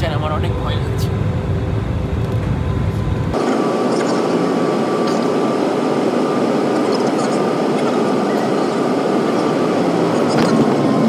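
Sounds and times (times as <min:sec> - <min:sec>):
faint steady whine: 0:00.0 - 0:11.0
jet engine and airflow noise: 0:00.0 - 0:11.0.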